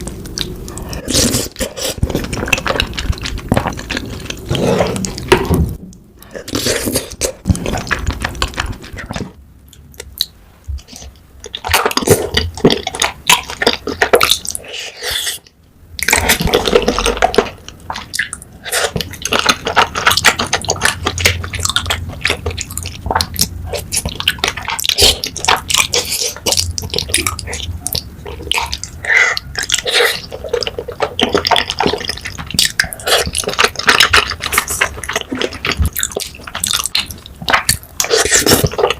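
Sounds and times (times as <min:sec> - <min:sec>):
wet chewing and mouth sounds: 0:00.0 - 0:38.9.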